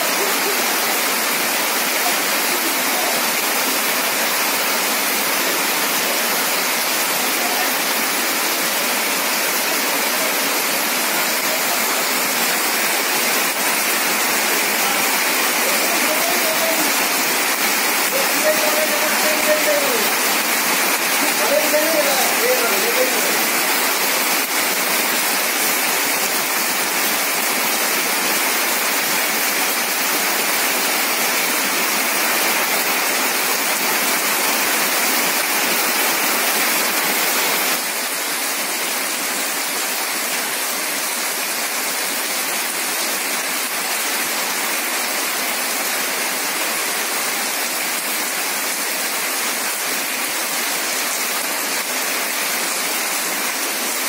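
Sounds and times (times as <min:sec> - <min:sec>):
heavy rain falling: 0:00.0 - 0:54.0
water pouring off roofs: 0:00.0 - 0:54.0.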